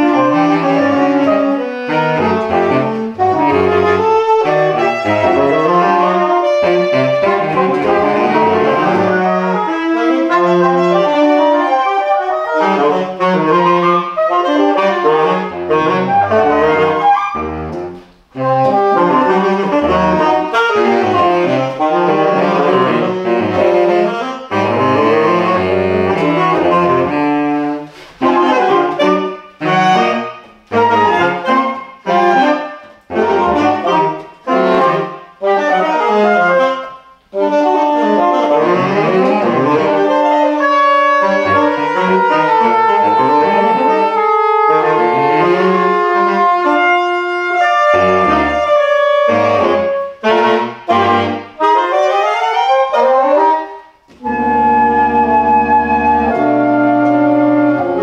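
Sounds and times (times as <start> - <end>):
saxophone quartet playing jazz: 0.0 - 58.0.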